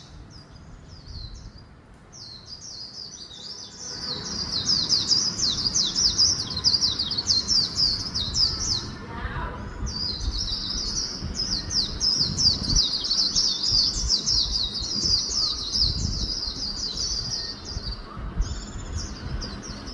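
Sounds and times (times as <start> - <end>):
bird singing fast high song: 0.0 - 19.9.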